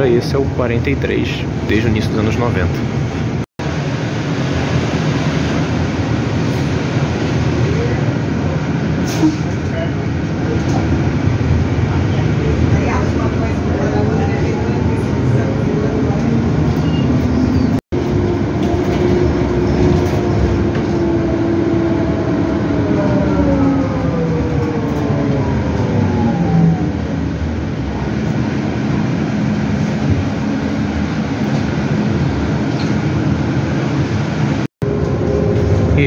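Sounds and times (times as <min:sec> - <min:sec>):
bus cabin running noise: 0:00.0 - 0:36.0.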